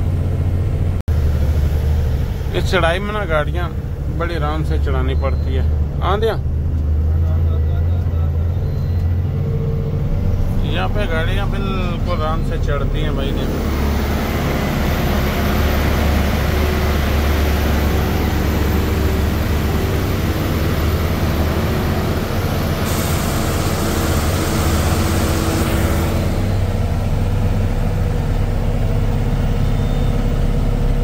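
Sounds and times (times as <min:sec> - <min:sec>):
heavy truck engine under load: 0:00.0 - 0:31.0
road noise: 0:00.0 - 0:31.0.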